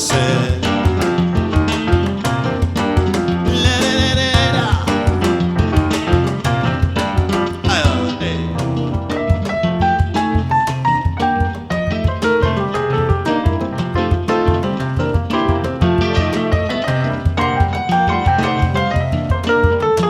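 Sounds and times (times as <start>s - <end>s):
drum beat: 0.0s - 19.6s
live band playing: 0.0s - 19.8s.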